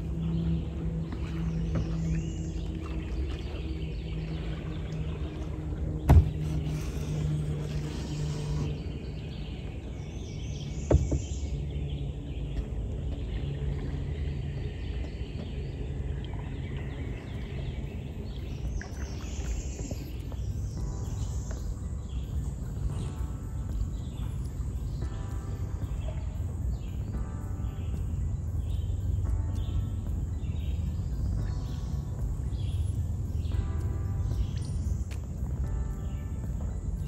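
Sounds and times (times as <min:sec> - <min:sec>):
faint hum: 0:00.0 - 0:37.0.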